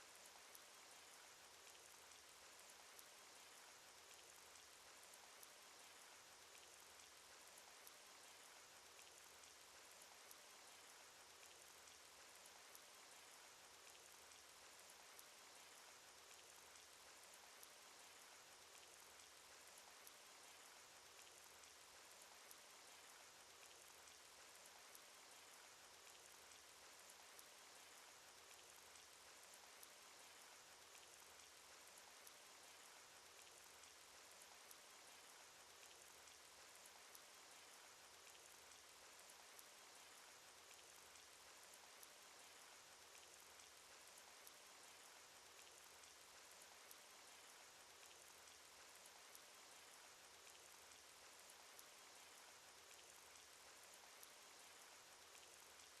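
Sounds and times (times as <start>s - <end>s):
faint rain patter: 0.0s - 56.0s
small raindrop ticks: 0.0s - 56.0s.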